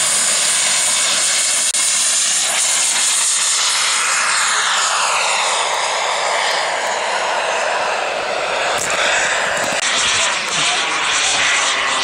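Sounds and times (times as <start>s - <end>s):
model jet engine whine: 0.0s - 12.0s.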